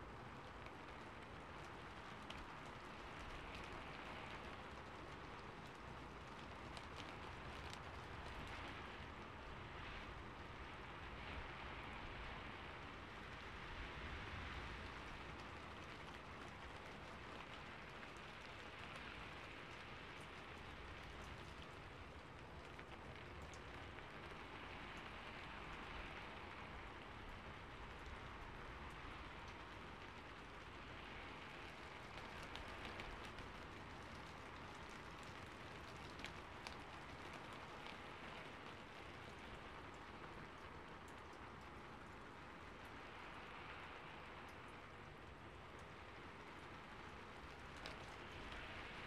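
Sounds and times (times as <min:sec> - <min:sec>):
faint raindrop ticks: 0:00.0 - 0:49.0
soft rain falling: 0:00.0 - 0:49.0.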